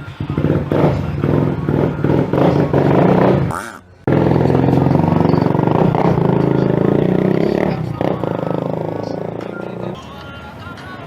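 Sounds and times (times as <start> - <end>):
motorcycle engine revving: 0.0 - 10.3.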